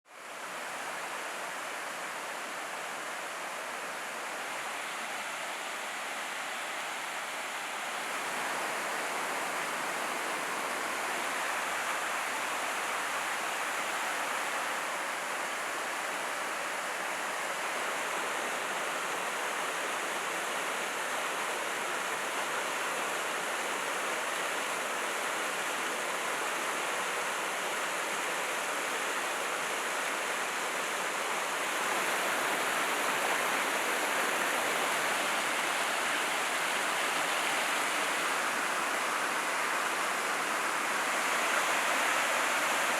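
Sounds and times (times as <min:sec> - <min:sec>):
stream rushing: 0:00.1 - 0:42.9.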